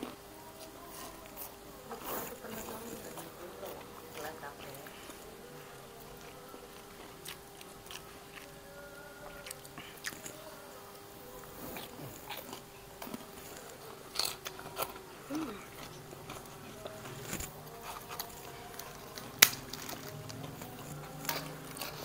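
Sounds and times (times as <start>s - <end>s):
chewing and lip-smacking: 0.0s - 10.4s, 11.4s - 22.0s
faint steady hum: 0.0s - 22.0s.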